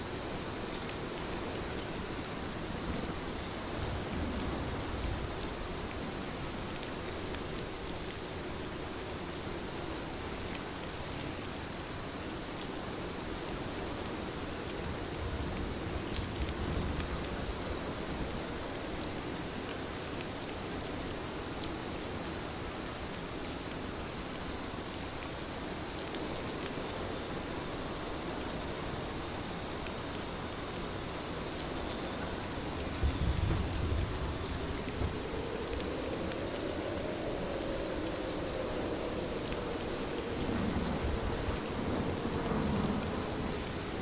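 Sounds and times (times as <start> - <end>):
heavy rain hissing: 0.0 - 44.0.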